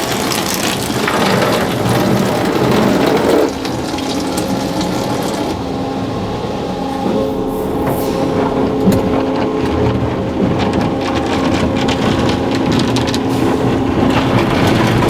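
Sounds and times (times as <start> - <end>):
spraying water: 0.0 - 14.1
car wash brush scrubbing car: 0.0 - 15.0
machine hum: 0.0 - 15.0.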